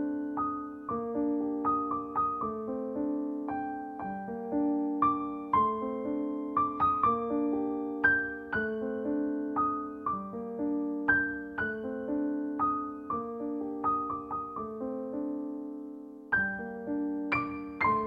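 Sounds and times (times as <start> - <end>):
piano notes and chords: 0.0 - 18.0.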